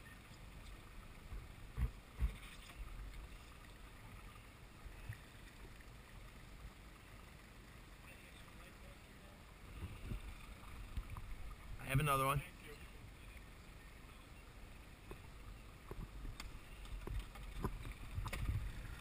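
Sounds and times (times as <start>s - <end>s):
low rumble of wind and water: 0.0s - 19.0s.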